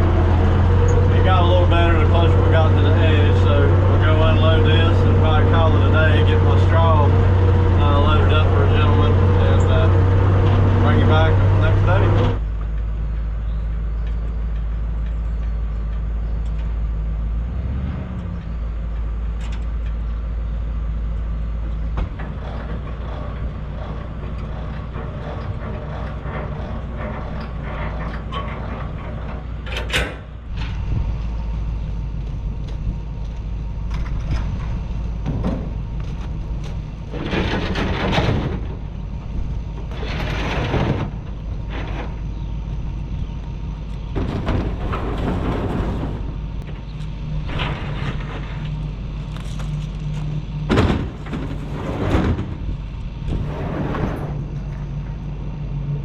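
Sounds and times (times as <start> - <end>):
combine engine drone: 0.0 - 56.0.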